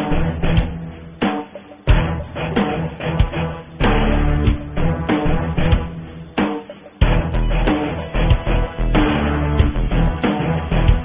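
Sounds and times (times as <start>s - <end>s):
music with heavy drum beat: 0.0s - 11.0s.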